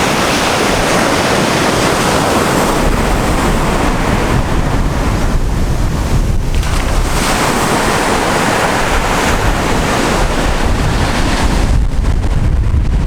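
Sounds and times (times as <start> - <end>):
ocean surf washing ashore: 0.0 - 13.0
wind buffeting microphone: 0.0 - 13.0.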